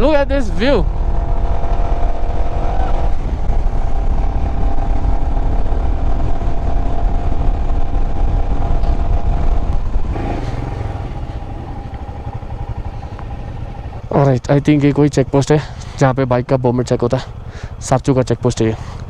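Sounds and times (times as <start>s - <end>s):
wind rumble on microphone: 0.0s - 15.4s
motorcycle engine cruising: 0.0s - 19.0s.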